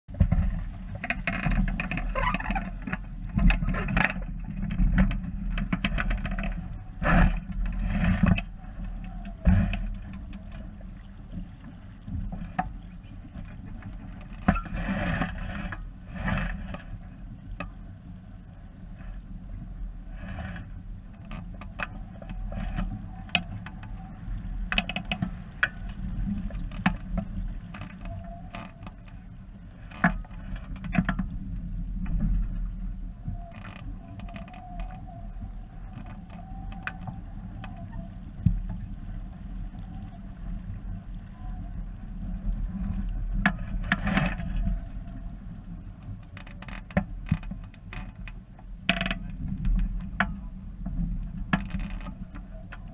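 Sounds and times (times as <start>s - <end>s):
water splashing along hull: 0.0s - 52.9s
wind rumbling on microphone: 0.0s - 52.9s.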